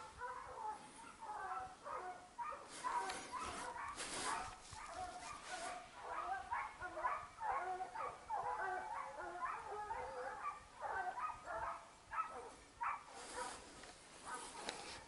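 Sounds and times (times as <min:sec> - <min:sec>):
dogs baying and yelping: 0:00.0 - 0:15.0
rustle: 0:00.0 - 0:15.0.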